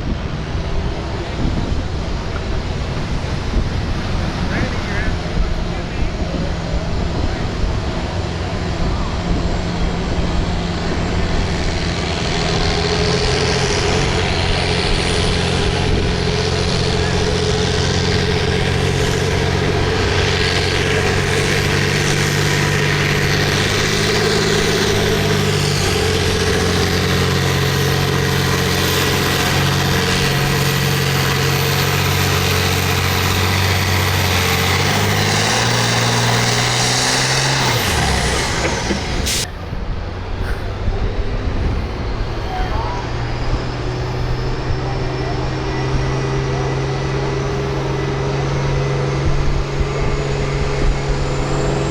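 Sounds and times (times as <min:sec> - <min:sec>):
tractor engine under load: 0:00.0 - 0:51.9.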